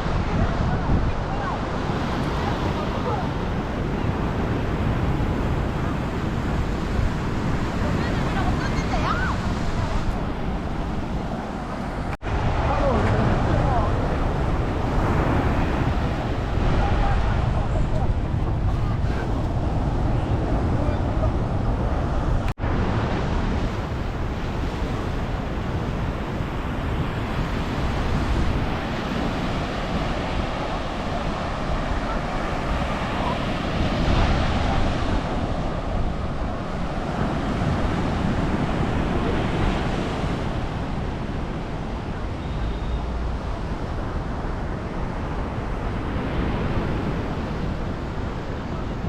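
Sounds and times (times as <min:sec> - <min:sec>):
surf breaking on sandy beach: 0:00.0 - 0:49.0
wind buffeting microphone: 0:00.0 - 0:49.0.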